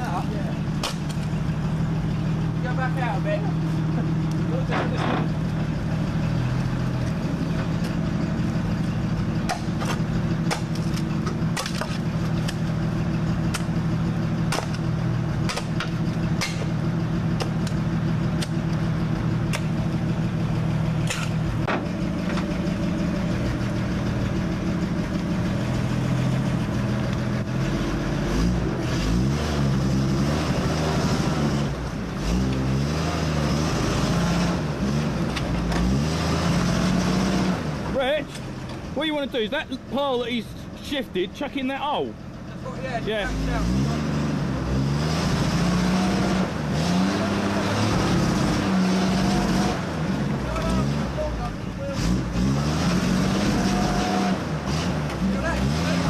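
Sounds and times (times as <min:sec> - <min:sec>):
truck engine idling and revving: 0:00.0 - 0:56.0.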